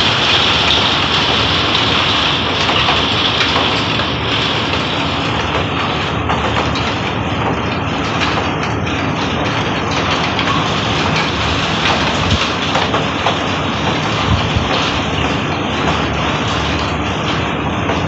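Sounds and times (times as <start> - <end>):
rain and wind rushing: 0.0 - 18.0.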